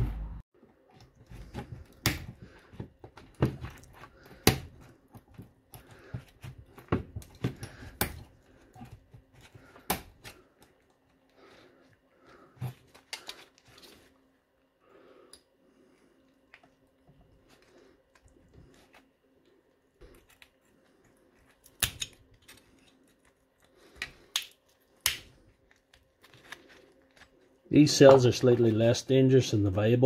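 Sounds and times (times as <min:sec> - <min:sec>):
work gloves rustling: 0:00.1 - 0:14.8, 0:15.8 - 0:29.0.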